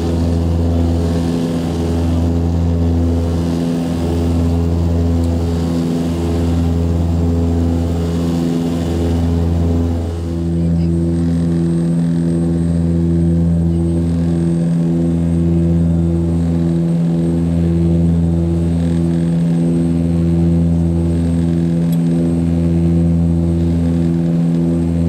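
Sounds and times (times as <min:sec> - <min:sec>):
turboprop engines droning in cabin: 0:00.0 - 0:25.0.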